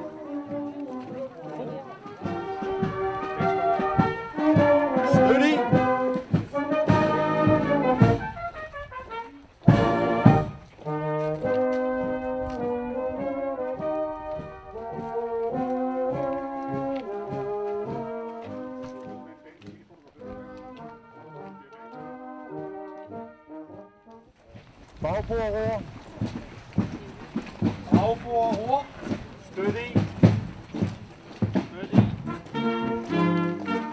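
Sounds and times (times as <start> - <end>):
marching brass band playing: 0.0 - 33.9.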